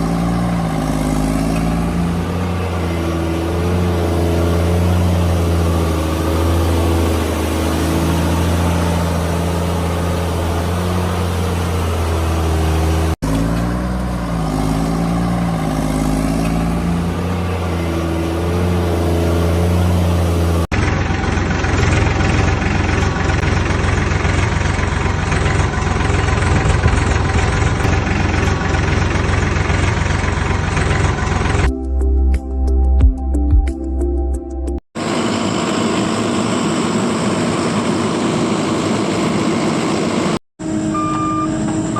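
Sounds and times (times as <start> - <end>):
heavy vehicle engines revving: 0.0 - 31.8, 35.0 - 41.9.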